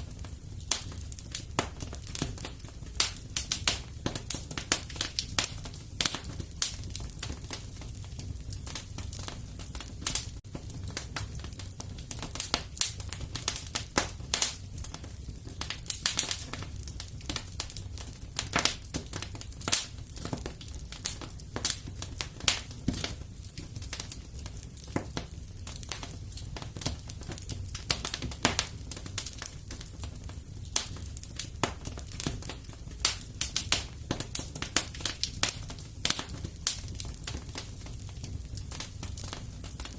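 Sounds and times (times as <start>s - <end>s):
low rumble of burning: 0.0s - 39.9s
wood fire pops and snaps: 0.0s - 39.9s.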